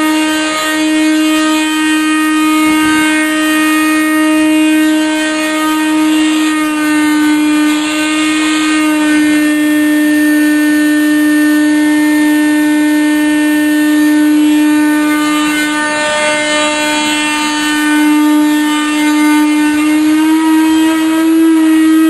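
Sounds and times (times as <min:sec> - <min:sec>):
shop vacuum motor whining: 0:00.0 - 0:22.0.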